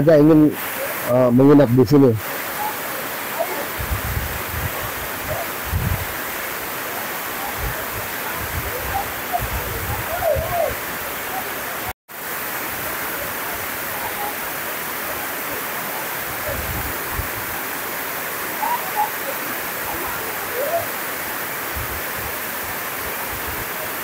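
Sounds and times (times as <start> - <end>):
waterfall roar: 0.3 - 24.0.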